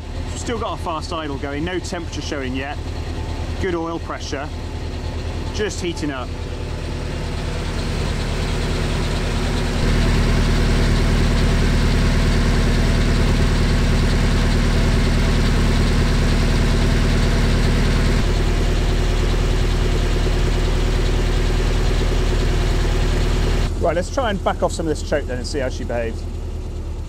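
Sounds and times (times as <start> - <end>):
engine running at fast idle: 0.0 - 27.0.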